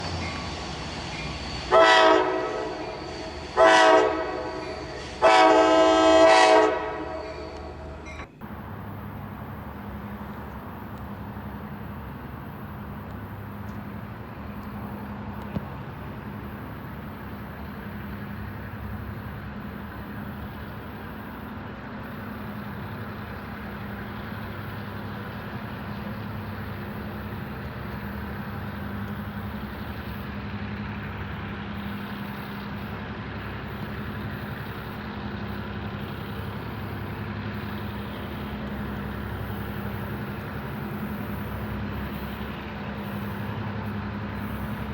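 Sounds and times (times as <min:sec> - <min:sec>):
locomotive diesel engines droning: 0:00.0 - 0:44.9.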